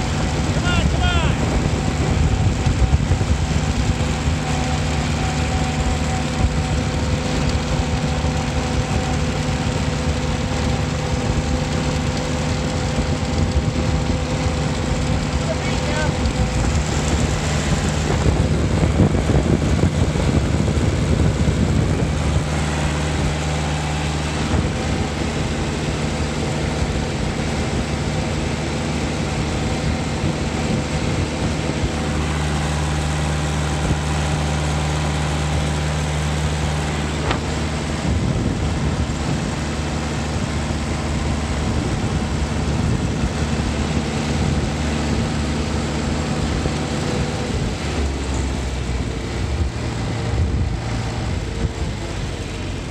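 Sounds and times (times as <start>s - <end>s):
tractor engine running: 0.0s - 52.9s
wind and road noise: 0.0s - 52.9s.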